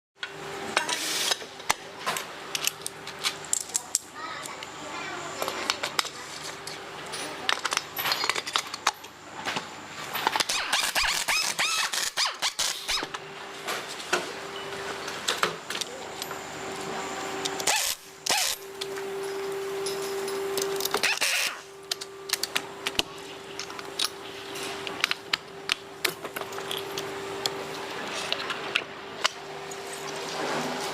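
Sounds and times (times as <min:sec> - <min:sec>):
steady hum: 0:00.2 - 0:30.9.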